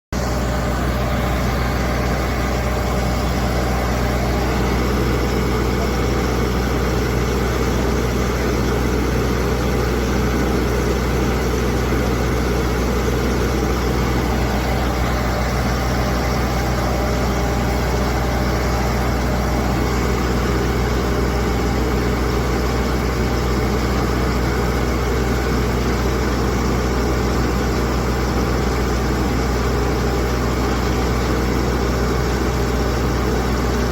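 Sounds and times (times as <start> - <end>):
ship engine droning: 0.2 - 33.9.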